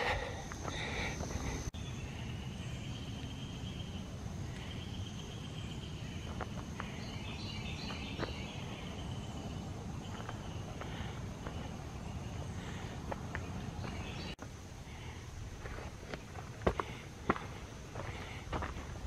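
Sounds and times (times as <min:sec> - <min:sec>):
bird singing: 0:00.0 - 0:19.0
insects chirring: 0:00.0 - 0:19.0.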